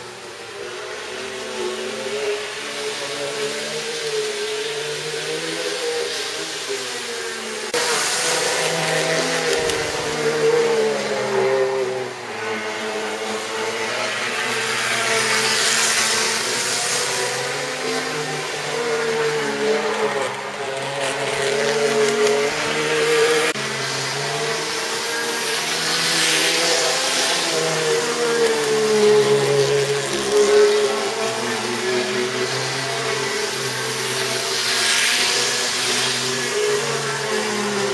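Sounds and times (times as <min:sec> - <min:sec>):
wheels hissing on track: 0:00.0 - 0:37.9
electric motor whining: 0:00.9 - 0:37.9.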